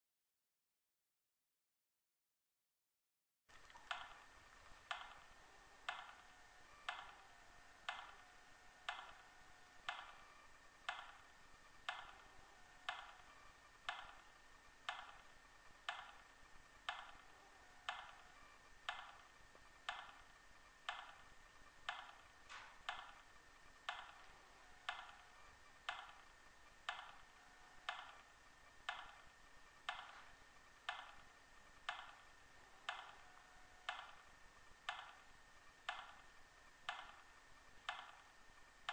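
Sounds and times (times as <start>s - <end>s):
clock ticking: 3.6s - 38.9s.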